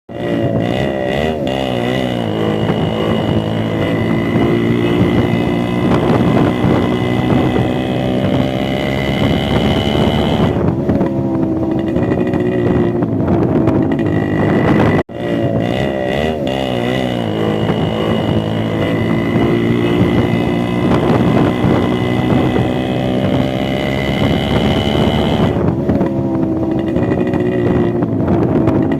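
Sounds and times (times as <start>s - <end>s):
motorcycle engine revving: 0.1s - 28.9s.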